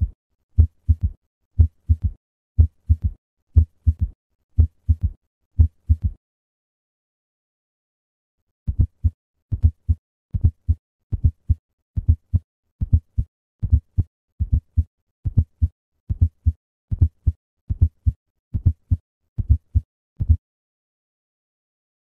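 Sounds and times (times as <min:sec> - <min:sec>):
galloping heartbeat thuds: 0:00.0 - 0:06.2, 0:08.7 - 0:20.4.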